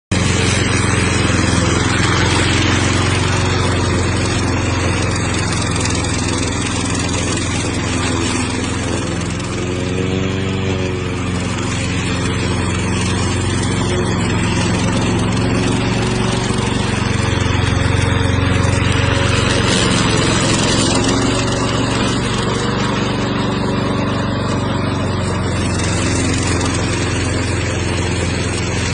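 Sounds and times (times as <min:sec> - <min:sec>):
broad rushing noise: 0:00.1 - 0:28.9
lawn mower engine running: 0:00.1 - 0:28.9.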